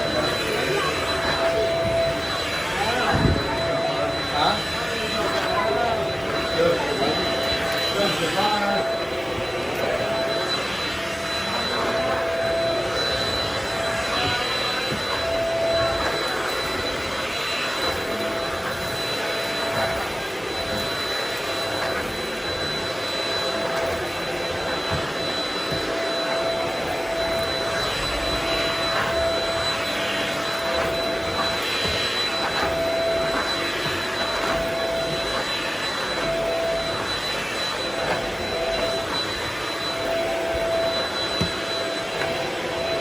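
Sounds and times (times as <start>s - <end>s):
vacuum cleaner on a rug: 0.0s - 43.0s.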